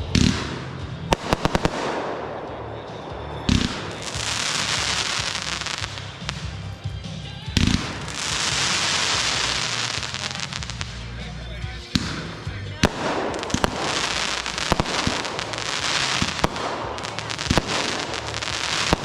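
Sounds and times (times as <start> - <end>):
dense firework crackling: 0.0 - 19.0
firework bursts: 0.0 - 19.0.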